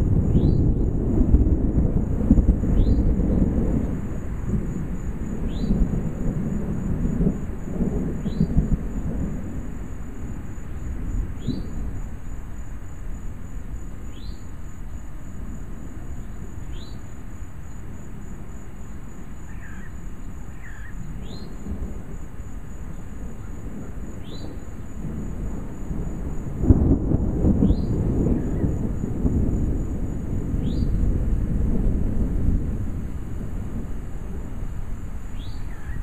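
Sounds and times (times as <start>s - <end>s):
distant thunder rumbling: 0.0s - 36.0s
high insect trill: 0.0s - 36.0s.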